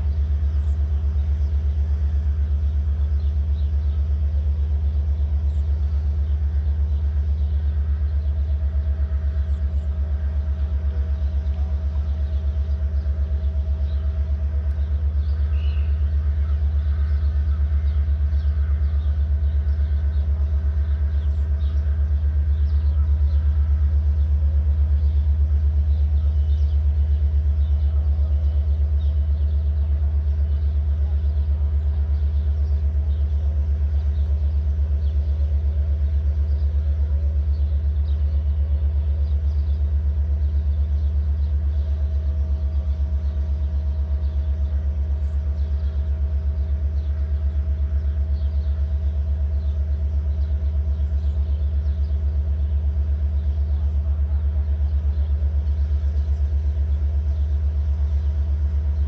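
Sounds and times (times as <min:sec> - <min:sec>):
diesel locomotive idling: 0:00.0 - 0:59.0
faint steady hum: 0:00.0 - 0:59.0.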